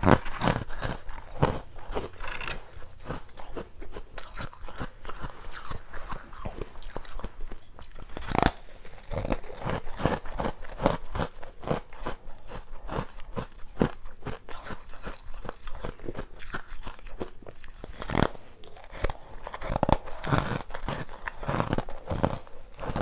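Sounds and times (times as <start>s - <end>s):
ice being bitten and crunched: 0.0s - 23.0s.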